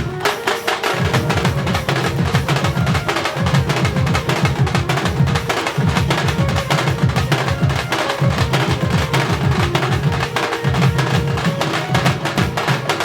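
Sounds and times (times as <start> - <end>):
fast dense drumming: 0.0 - 13.0.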